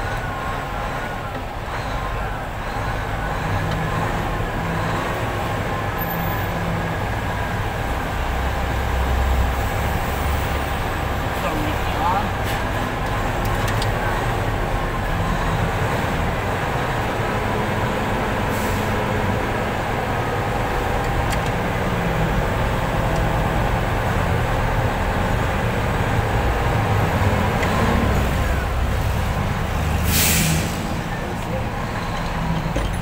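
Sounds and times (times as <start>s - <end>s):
heavy vehicle engine idling: 0.0s - 33.0s.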